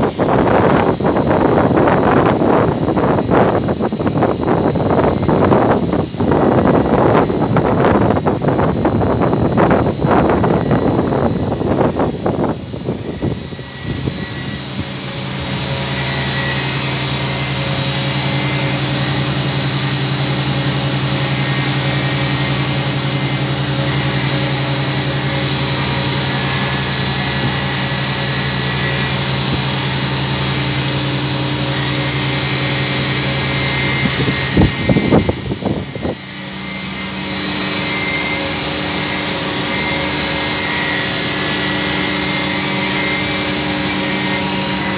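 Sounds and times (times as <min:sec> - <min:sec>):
machine hum with spindle whine: 0:00.0 - 0:44.9
noisy rush: 0:00.0 - 0:44.9.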